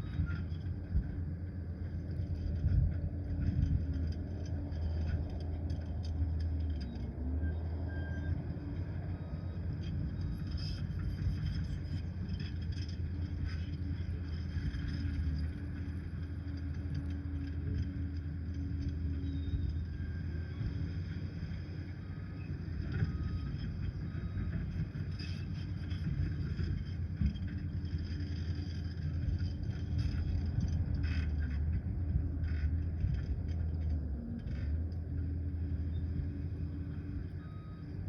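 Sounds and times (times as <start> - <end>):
dozer diesel engine running: 0.0 - 38.0.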